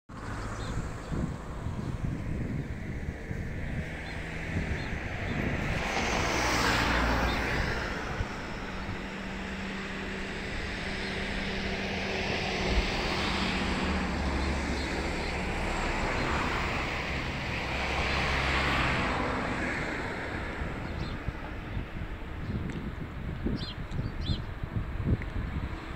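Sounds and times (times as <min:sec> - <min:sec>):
wind: 0:00.0 - 0:25.9
road traffic hum: 0:00.1 - 0:25.9
vehicles passing: 0:00.1 - 0:25.9.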